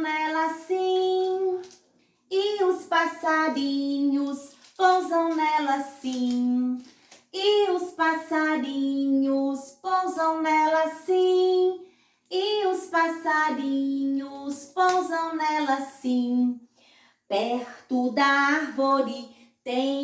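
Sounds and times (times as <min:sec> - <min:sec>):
woman singing unaccompanied: 0:00.0 - 0:01.7, 0:02.3 - 0:16.6, 0:17.3 - 0:20.0.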